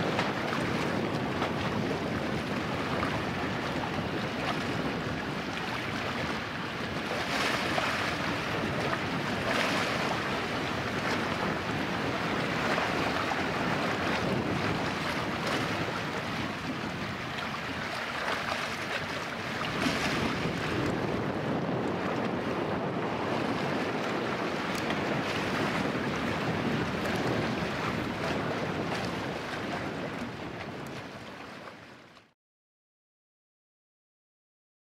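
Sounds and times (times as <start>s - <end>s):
wind buffeting microphone: 0.0s - 31.7s
sea waves washing: 0.0s - 32.2s.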